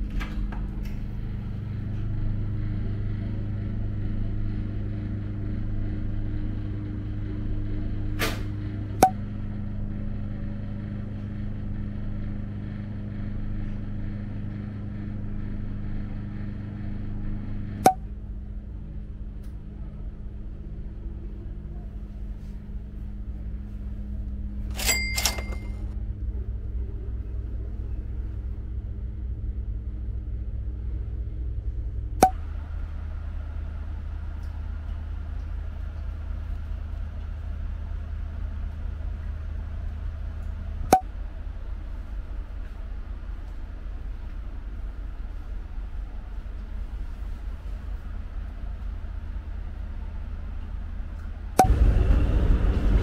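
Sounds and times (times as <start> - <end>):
ferry engine drone: 0.0 - 53.0.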